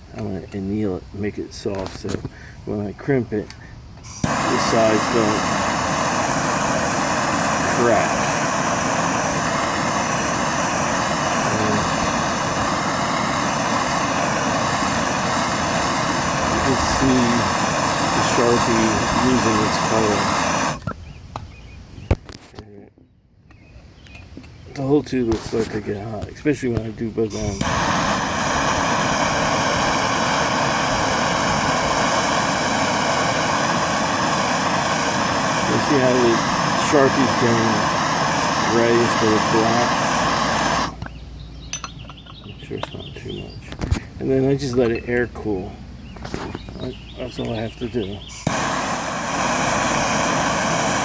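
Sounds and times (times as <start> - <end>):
gas torch flame hissing: 0.0 - 20.9, 24.7 - 41.2, 46.2 - 51.0.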